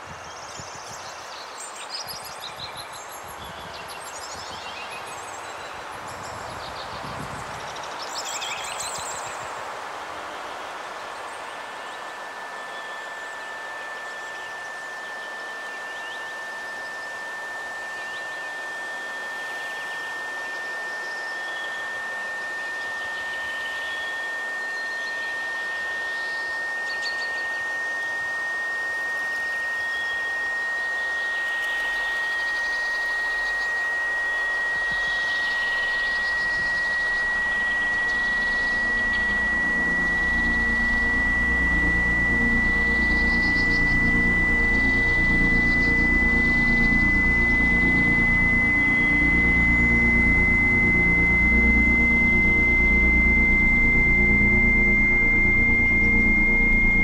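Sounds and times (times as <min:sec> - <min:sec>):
faint chirps: 0:00.0 - 0:57.0
high synthesized tone rising: 0:11.0 - 0:57.0.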